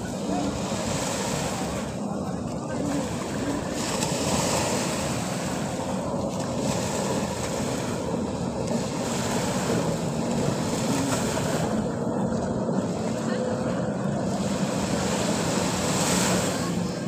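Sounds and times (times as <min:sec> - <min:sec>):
waves washing onto beach: 0:00.0 - 0:17.0.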